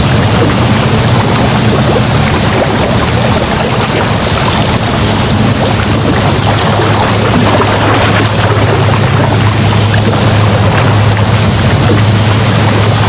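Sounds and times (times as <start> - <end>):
ocean waves and surf: 0.0 - 13.0
steady low drone: 0.0 - 13.0.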